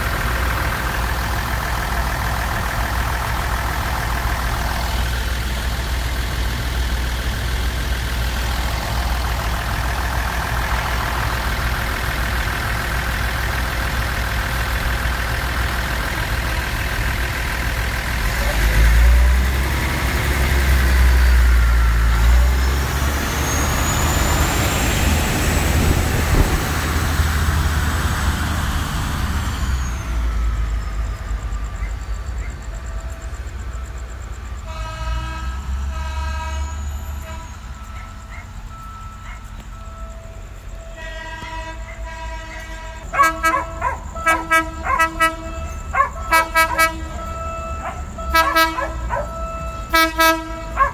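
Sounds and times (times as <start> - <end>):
diesel train engine rumble: 0.0 - 50.9.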